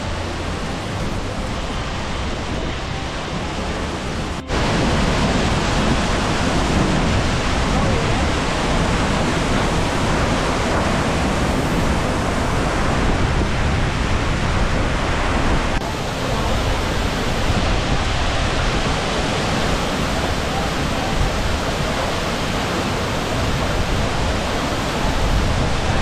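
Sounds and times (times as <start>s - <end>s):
waterfall roaring onto rocks: 0.0s - 26.0s.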